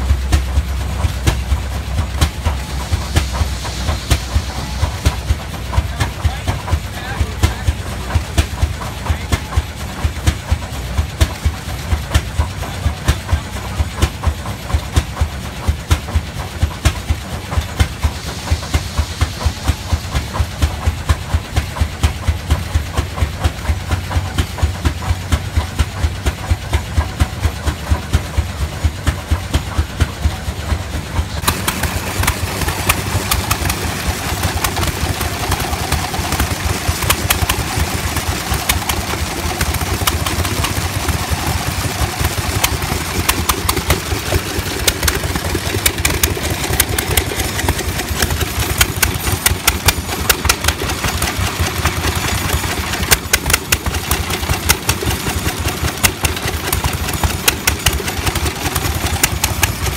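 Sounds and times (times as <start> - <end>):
stationary gas engine running: 0.0 - 59.9
tractor engine chuffing: 0.0 - 59.9.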